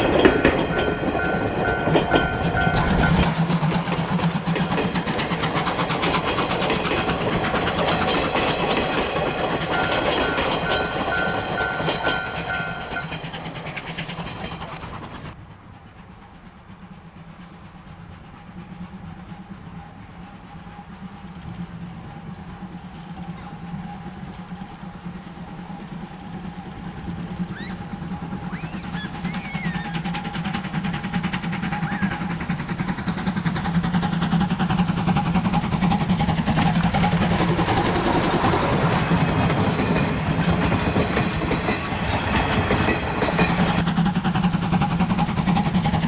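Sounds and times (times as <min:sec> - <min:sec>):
train wheels clattering over rails: 0:00.0 - 0:46.0.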